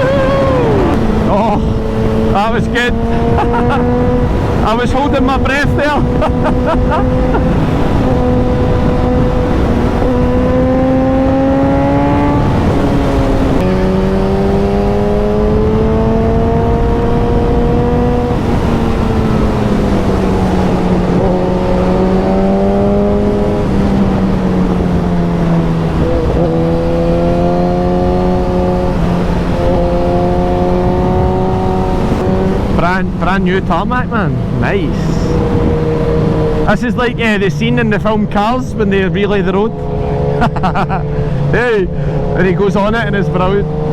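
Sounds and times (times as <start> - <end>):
motorcycle engine revving: 0.0 - 43.9
wind and road noise: 0.0 - 43.9.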